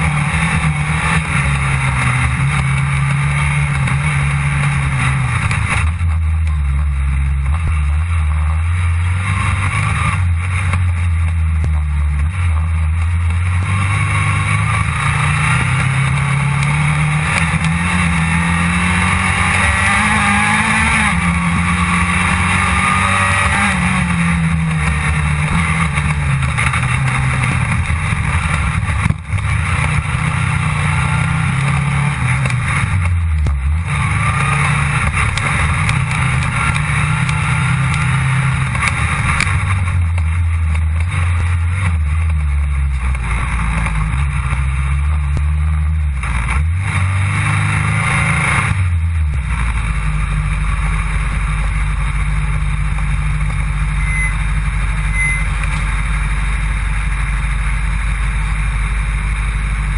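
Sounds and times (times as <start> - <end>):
rally car engine revving under load: 0.0 - 59.9.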